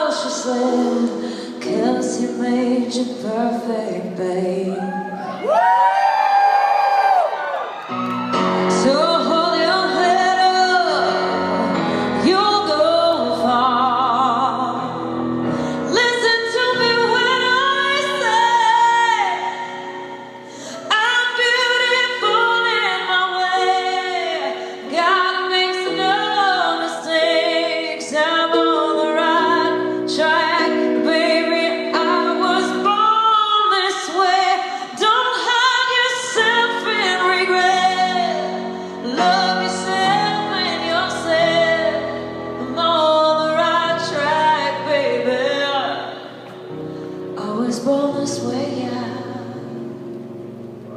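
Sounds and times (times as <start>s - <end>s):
woman singing with vibrato: 0.0s - 5.9s, 8.5s - 49.9s.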